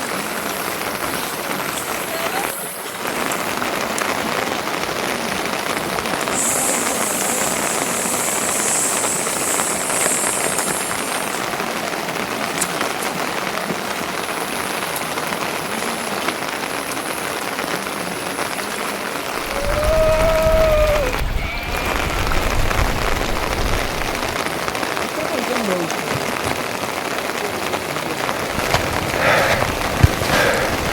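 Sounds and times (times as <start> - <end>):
rain falling: 0.0 - 30.9.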